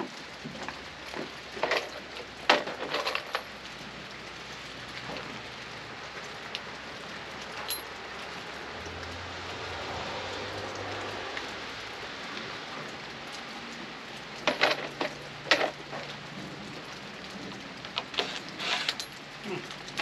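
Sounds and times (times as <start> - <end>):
rain pattering: 0.0 - 20.0.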